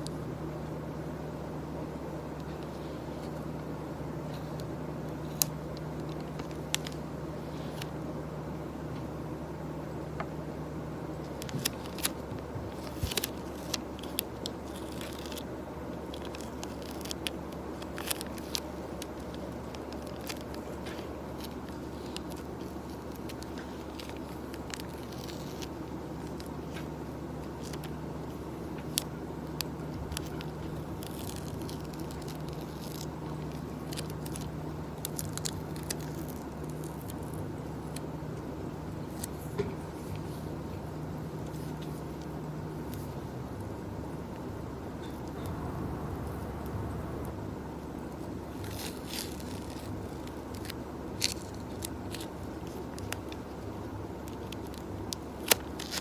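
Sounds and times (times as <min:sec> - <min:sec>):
low office hum: 0:00.0 - 0:56.0.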